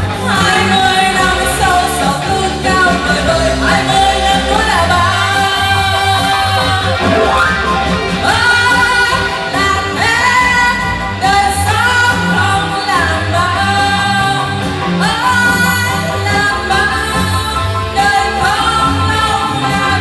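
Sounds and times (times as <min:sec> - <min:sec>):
pop song with singer and band: 0:00.0 - 0:20.0.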